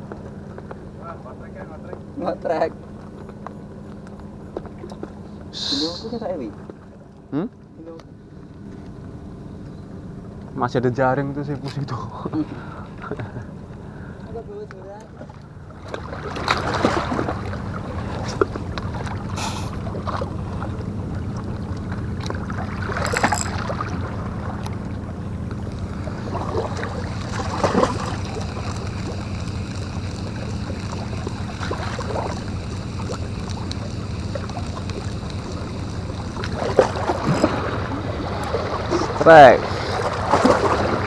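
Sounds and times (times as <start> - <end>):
low motor drone: 0.0 - 41.0.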